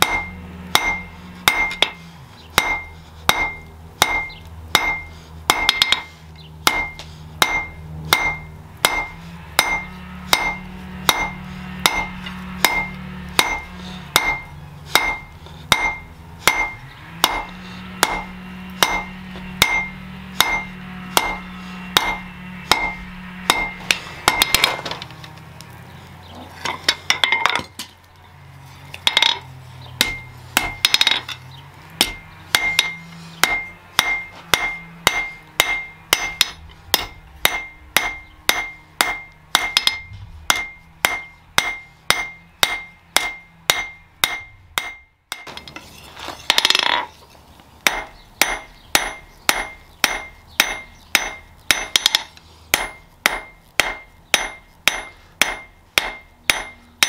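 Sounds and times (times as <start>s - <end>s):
hammer striking steel on anvil: 0.0s - 2.0s, 2.6s - 25.0s, 28.9s - 29.4s, 30.0s - 31.4s, 32.0s - 47.1s, 47.8s - 57.0s.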